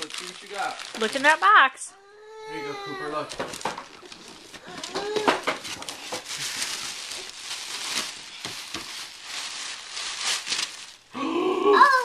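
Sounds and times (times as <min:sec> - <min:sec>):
paper rustling and crinkling: 0:00.0 - 0:01.7, 0:02.3 - 0:11.1.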